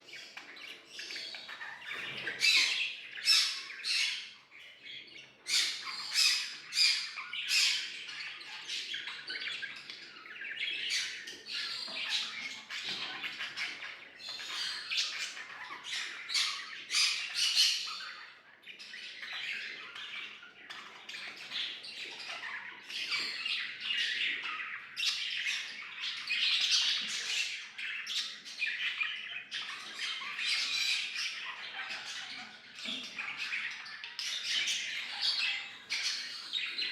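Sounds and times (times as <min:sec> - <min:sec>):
budgerigars chattering and warbling: 0:00.0 - 0:36.9.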